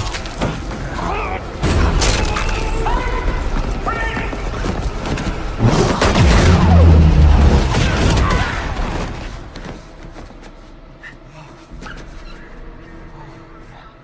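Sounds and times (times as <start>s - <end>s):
film score music: 0.0s - 14.0s.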